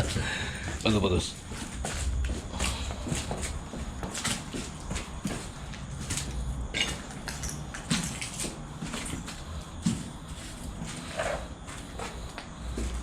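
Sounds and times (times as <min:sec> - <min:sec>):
footsteps with clicks and crunches: 0:00.0 - 0:13.0.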